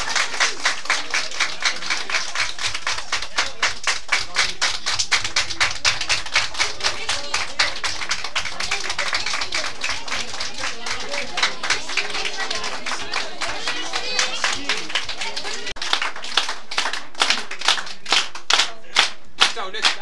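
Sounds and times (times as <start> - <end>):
children clapping in rhythm: 0.0 - 20.0.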